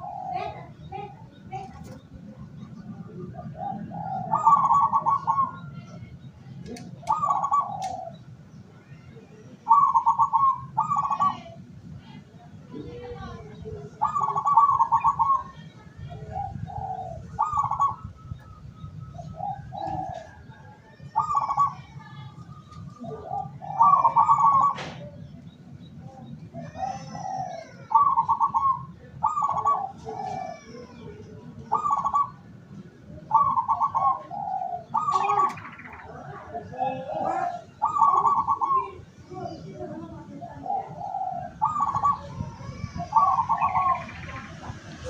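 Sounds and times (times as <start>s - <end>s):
doves cooing: 0.0s - 6.0s, 6.8s - 8.7s, 9.4s - 11.8s, 12.8s - 45.0s.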